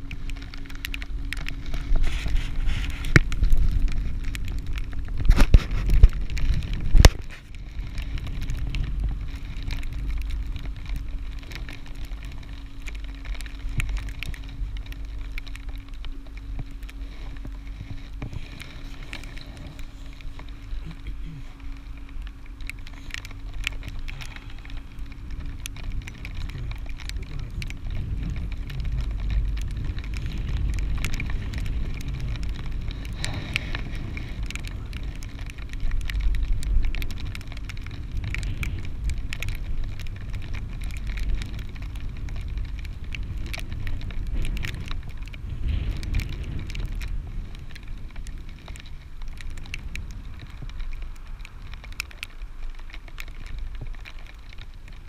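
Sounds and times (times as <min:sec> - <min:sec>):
crackles and clicks: 0:00.0 - 0:55.0
wind buffeting microphone: 0:00.0 - 0:55.0.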